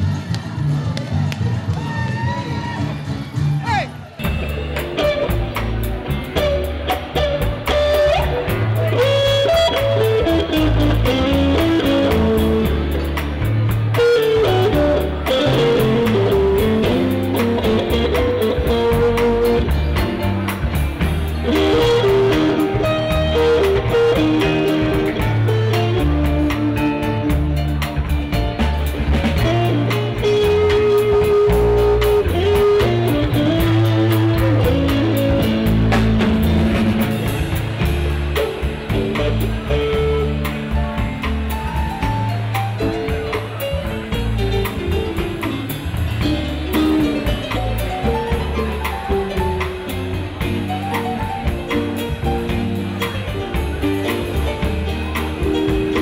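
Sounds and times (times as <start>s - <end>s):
drum kit beat: 0.0s - 56.0s
electric guitar: 0.0s - 56.0s
live band playing dance music: 0.0s - 56.0s.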